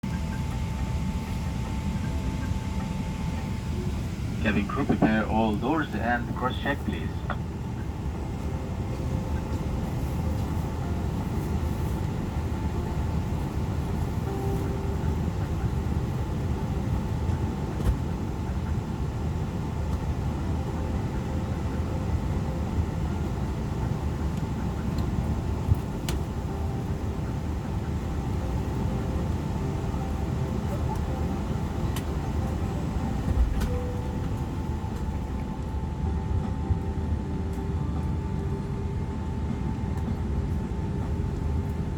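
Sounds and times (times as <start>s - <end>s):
cabin ventilation rumble: 0.0s - 41.9s
faint hum tones: 0.0s - 41.9s.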